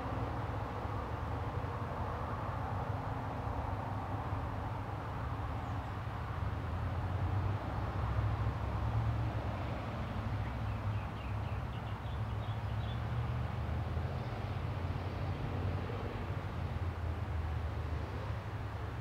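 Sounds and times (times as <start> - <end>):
low rumble of background noise: 0.0 - 19.0.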